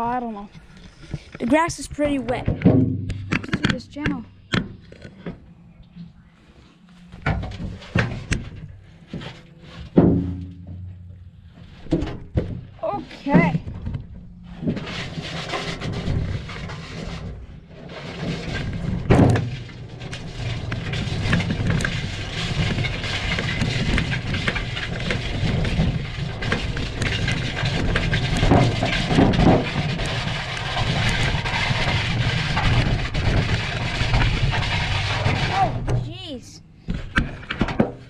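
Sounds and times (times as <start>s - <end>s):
wheelbarrow rumbling rattle: 1.0s - 4.2s, 7.1s - 36.0s
heavy bumps: 1.0s - 5.5s, 7.1s - 38.0s.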